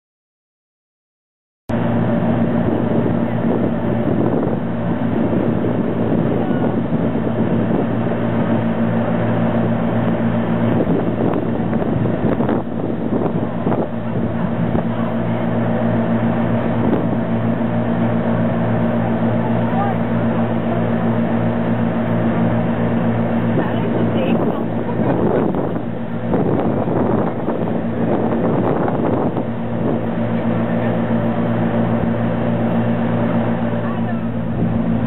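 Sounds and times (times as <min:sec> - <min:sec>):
churning wake rushing: 0:01.7 - 0:35.0
ship engines droning: 0:01.7 - 0:35.0
wind buffeting microphone: 0:01.7 - 0:35.0.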